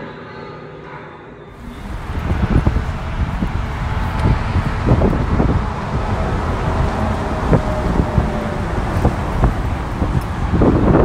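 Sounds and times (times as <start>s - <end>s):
wind buffeting microphone: 1.5s - 11.0s.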